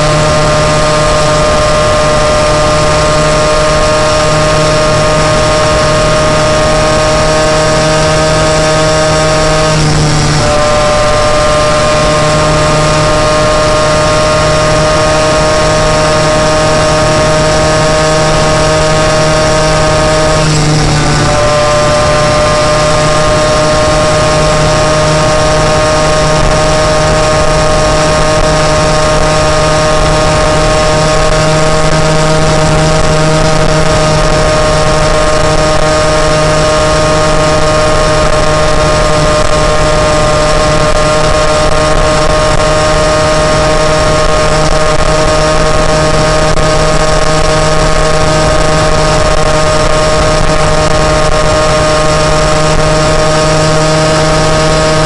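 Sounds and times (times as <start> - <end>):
moped engine running: 0.0 - 55.0.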